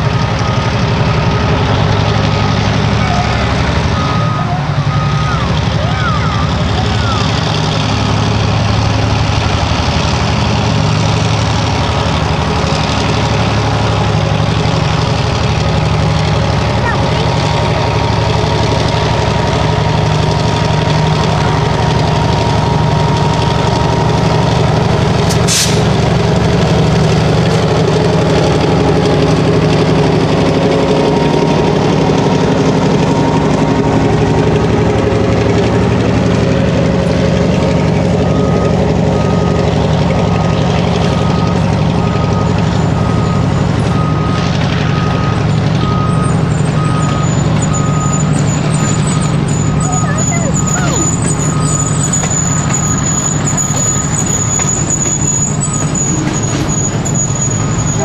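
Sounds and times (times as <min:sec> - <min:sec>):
diesel locomotive engine: 0:00.0 - 0:58.0
train wheels on rails: 0:00.0 - 0:58.0.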